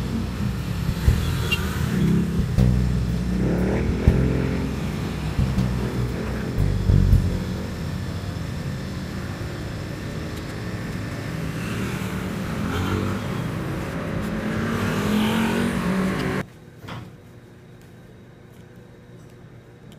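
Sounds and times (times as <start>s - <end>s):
vehicle engine accelerating: 0.0s - 16.4s
street traffic: 0.0s - 16.8s.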